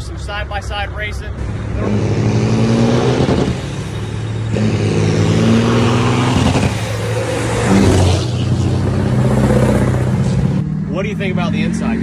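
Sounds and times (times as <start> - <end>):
truck diesel engines accelerating: 0.0 - 12.0.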